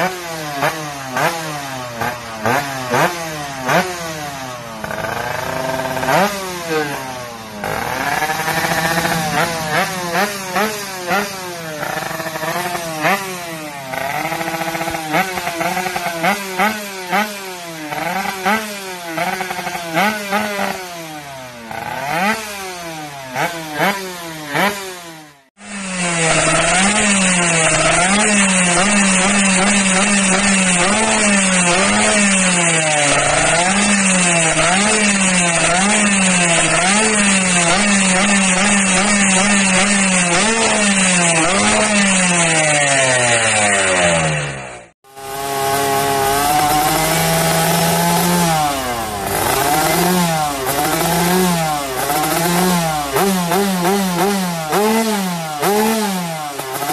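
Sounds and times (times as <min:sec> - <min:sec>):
two-stroke motorcycle engines revving: 0:00.0 - 0:56.9.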